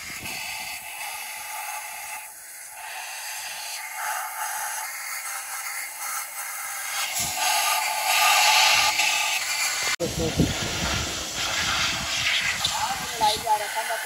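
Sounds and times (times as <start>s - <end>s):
spray gun hissing: 0.0s - 14.0s.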